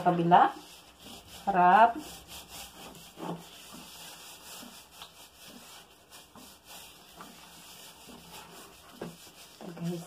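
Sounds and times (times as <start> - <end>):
hands rubbing spice into meat: 0.1 - 10.0.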